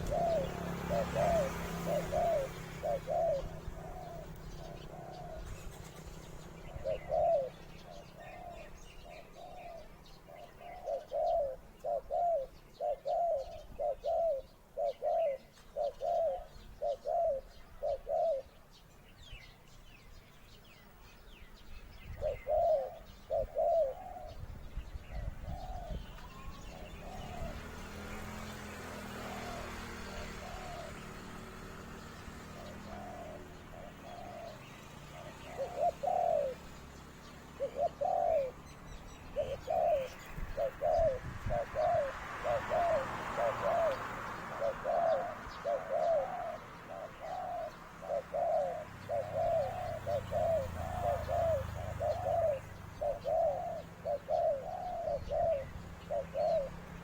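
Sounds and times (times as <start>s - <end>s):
dove cooing: 0.0s - 18.8s, 21.9s - 57.0s.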